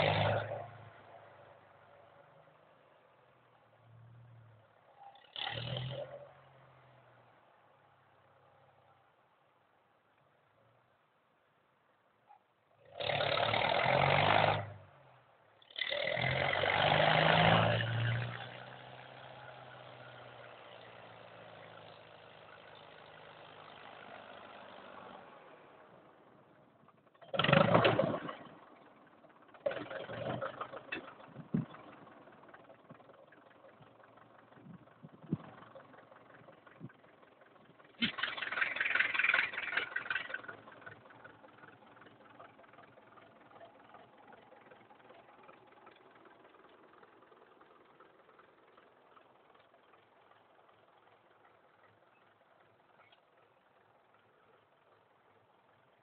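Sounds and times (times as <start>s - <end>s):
engine starting and running: 0.0s - 9.1s, 12.3s - 56.0s.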